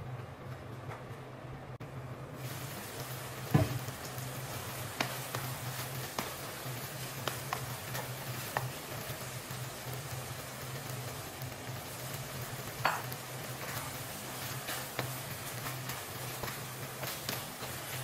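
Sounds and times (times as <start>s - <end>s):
food sizzling in a pan: 2.3s - 18.0s.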